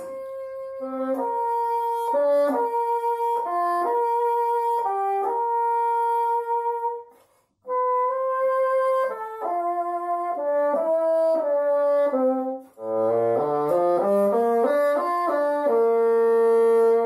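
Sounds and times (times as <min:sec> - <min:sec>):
bassoon playing slow melody: 0:00.0 - 0:17.0.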